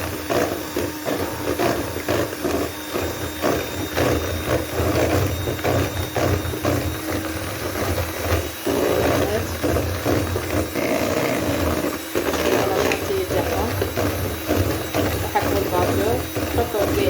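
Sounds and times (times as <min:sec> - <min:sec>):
hand mixer motor hum: 0:00.0 - 0:17.0.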